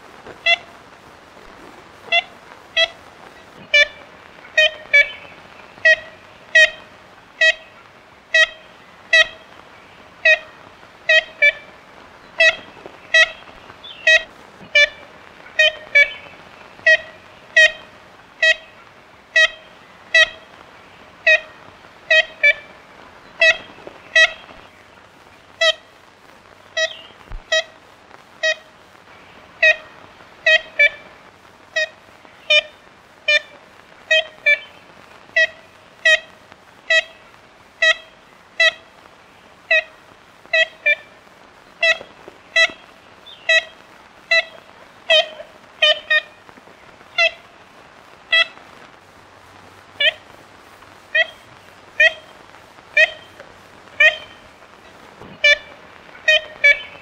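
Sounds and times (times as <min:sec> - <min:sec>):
woodpecker calling: 0:02.0 - 0:25.9, 0:26.7 - 0:27.8, 0:28.4 - 0:47.6, 0:51.1 - 0:57.0.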